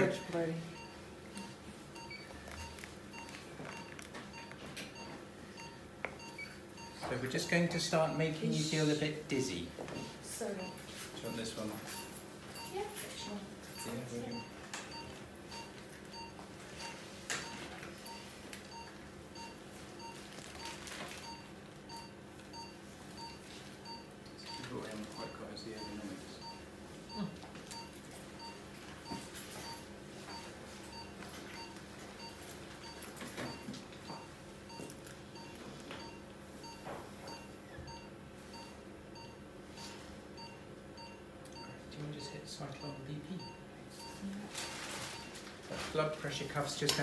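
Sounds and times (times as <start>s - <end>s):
pulse oximeter beeping: 0.0s - 7.5s, 9.8s - 45.4s
anaesthetic machine hum: 0.0s - 47.0s.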